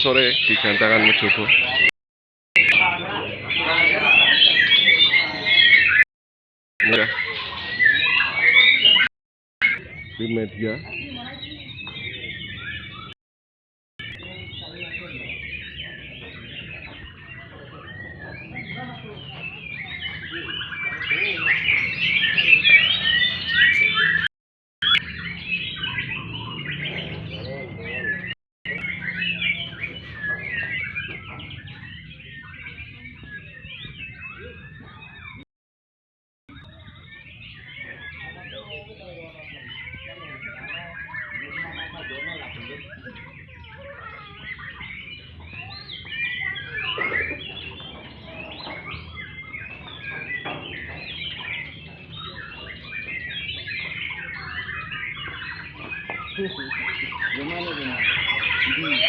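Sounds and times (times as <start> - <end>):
birds singing whistles and trills: 0.0 - 1.9, 2.6 - 6.1, 6.8 - 13.2, 14.0 - 35.5, 36.5 - 59.0
songbirds chorus of chirps: 0.0 - 1.9, 2.6 - 6.0, 6.8 - 13.2, 14.0 - 35.4, 36.5 - 59.0.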